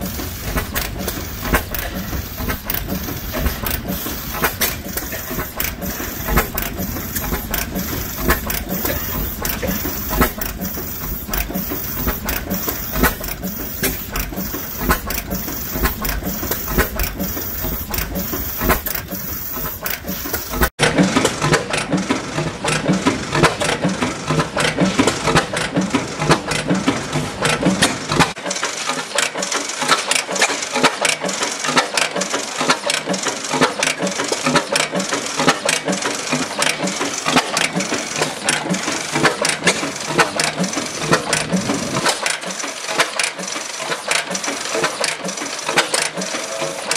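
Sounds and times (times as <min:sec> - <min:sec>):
two-stroke engine running: 0:00.0 - 0:46.9.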